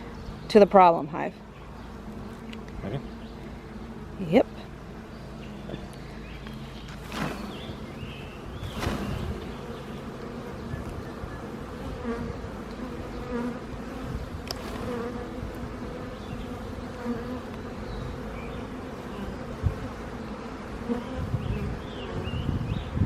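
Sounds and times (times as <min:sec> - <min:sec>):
honey bees buzzing: 0:00.0 - 0:23.0.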